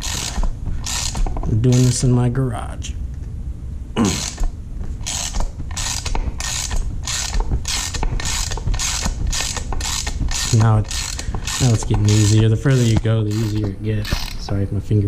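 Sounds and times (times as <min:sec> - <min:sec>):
socket ratchet clicking: 0:00.0 - 0:02.0, 0:04.1 - 0:14.5.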